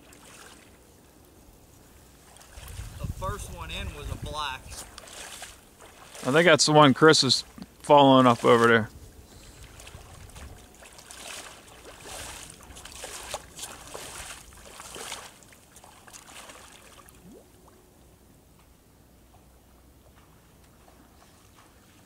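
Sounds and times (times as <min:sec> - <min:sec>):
wading through shallow water: 0:00.0 - 0:18.2, 0:19.2 - 0:22.0.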